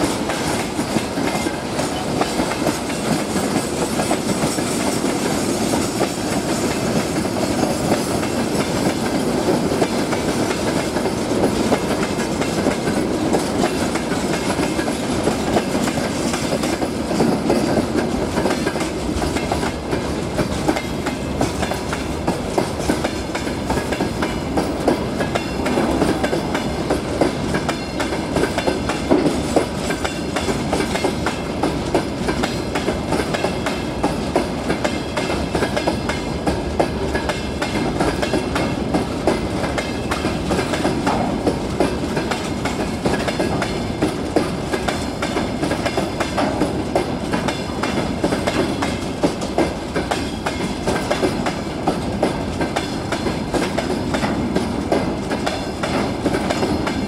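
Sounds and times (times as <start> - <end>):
freight train wheels rumbling: 0.0 - 57.0
train wheels clickety-clack: 0.0 - 57.0.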